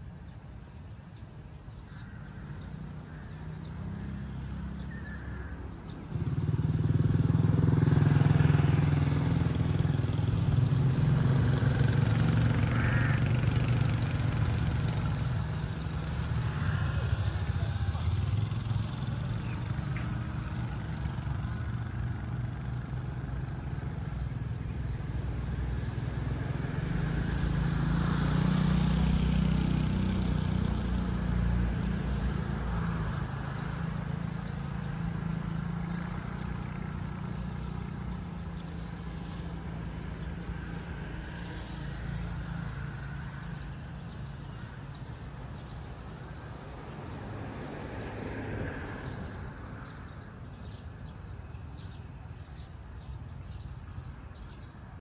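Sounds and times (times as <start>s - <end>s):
vehicle passing by: 1.9s - 55.0s.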